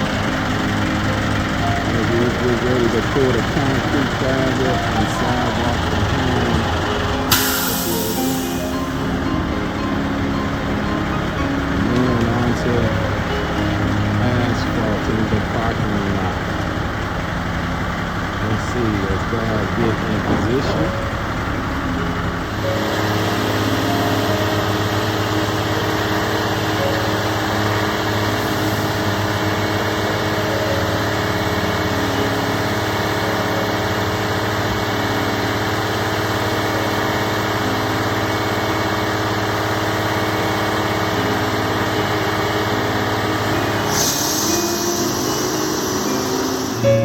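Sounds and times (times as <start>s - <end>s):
small engine running: 0.0s - 47.0s.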